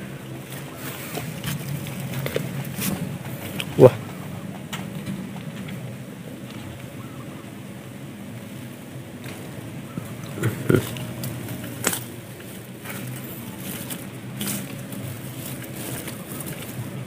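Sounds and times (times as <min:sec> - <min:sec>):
plants and leaves rustling: 0:00.0 - 0:17.0
steady low hum: 0:00.0 - 0:17.0.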